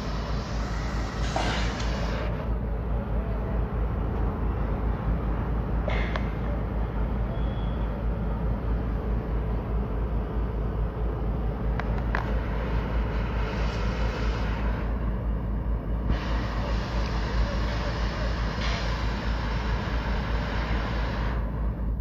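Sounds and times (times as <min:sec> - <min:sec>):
demolition excavator working: 0:00.0 - 0:22.0
traffic rumble: 0:00.0 - 0:22.0.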